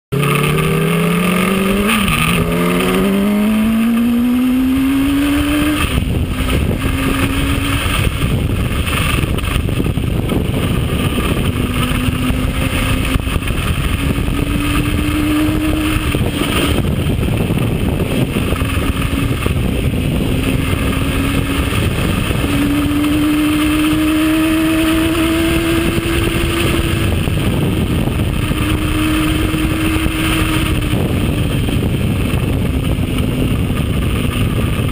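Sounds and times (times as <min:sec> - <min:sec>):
motorcycle engine accelerating: 0:00.1 - 0:34.9
wind noise rushing: 0:00.2 - 0:34.9.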